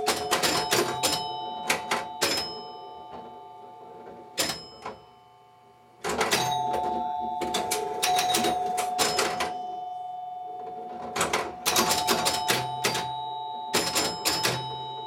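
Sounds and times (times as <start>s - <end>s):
pinball mechanical clacks: 0.0s - 5.2s, 6.0s - 9.8s, 10.5s - 15.0s
chimes and bell ringing: 0.0s - 5.5s, 6.3s - 15.0s.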